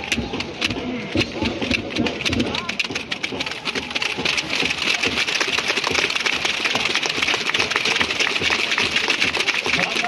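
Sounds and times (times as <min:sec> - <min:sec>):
crowd clapping: 0:00.0 - 0:10.0.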